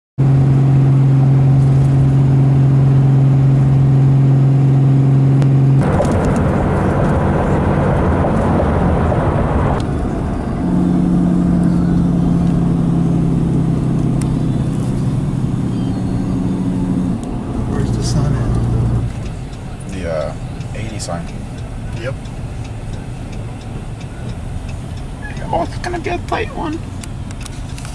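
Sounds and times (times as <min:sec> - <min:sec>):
vehicle cabin engine and road drone: 0:00.2 - 0:27.9.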